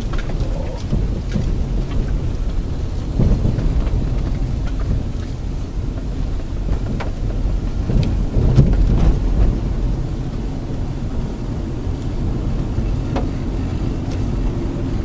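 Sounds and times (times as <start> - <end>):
car engine: 0.0 - 15.0
road and tyre rumble: 0.0 - 15.0.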